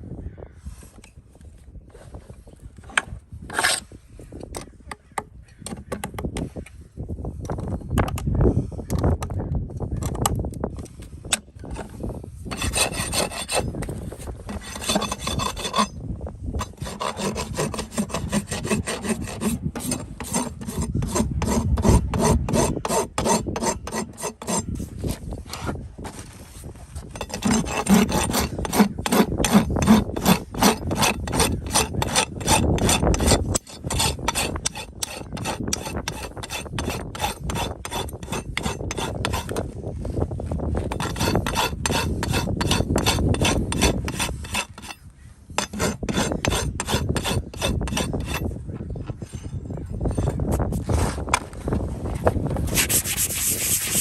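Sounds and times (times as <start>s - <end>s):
rasp filing a hoof: 3.5s - 4.4s, 11.0s - 51.5s, 52.2s - 54.0s.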